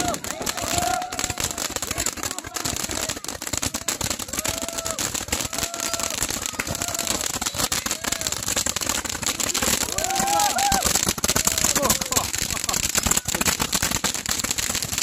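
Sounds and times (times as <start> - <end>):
firework pops and crackling bangs: 0.0 - 15.0.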